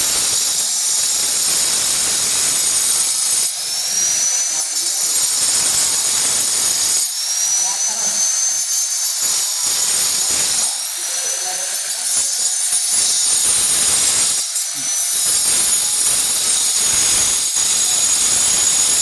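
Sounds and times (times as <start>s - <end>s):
angle grinder cutting glass: 0.0s - 19.0s.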